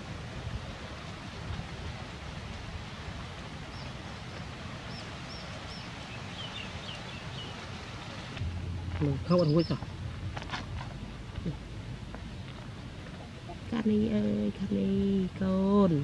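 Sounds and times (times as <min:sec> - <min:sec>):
outdoor wind: 0:00.0 - 0:16.0.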